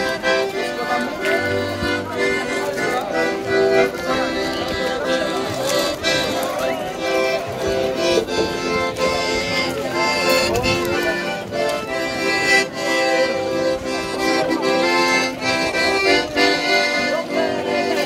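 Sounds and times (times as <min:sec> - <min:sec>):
accordion melody over chords: 0:00.0 - 0:18.0.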